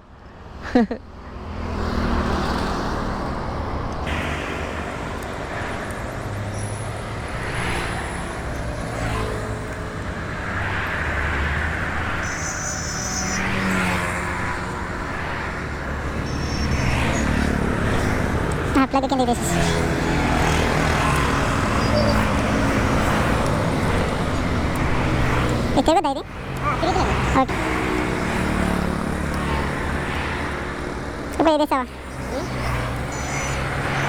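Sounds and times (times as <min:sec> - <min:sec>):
road traffic noise: 0:00.0 - 0:34.0.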